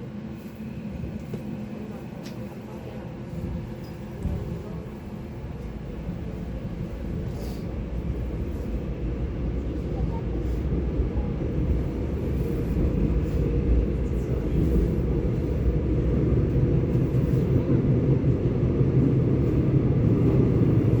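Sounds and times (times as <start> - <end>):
electric train low rumble: 0.0 - 21.0.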